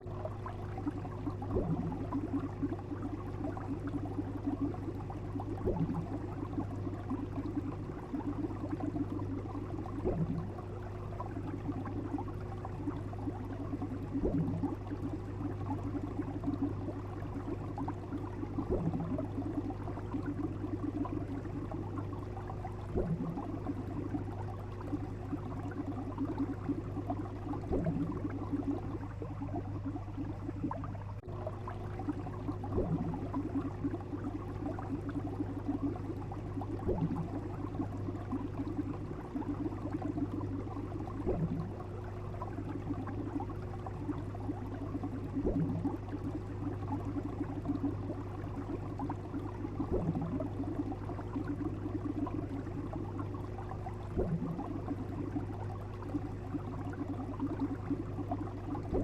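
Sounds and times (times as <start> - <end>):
low hum: 0.0 - 59.0
water bubbling: 0.0 - 59.0.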